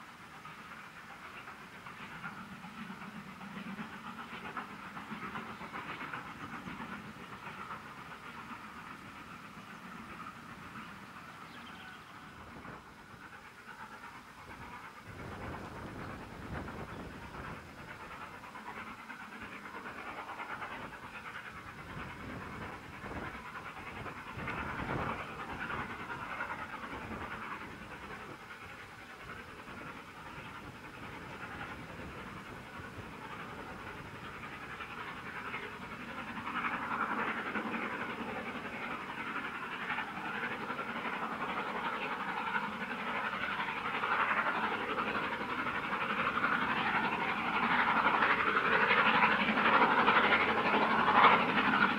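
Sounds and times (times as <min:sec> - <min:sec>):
steam locomotive chuffing: 0:00.0 - 0:51.9.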